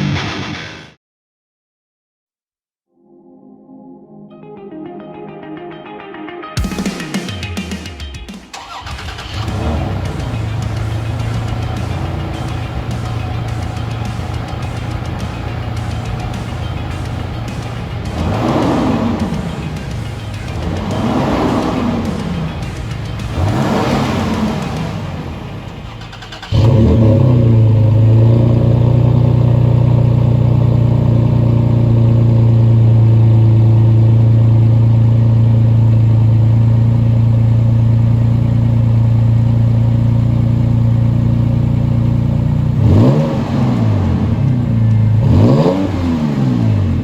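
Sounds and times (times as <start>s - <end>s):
engine idling: 8.6s - 47.0s
engine revving: 8.6s - 47.0s.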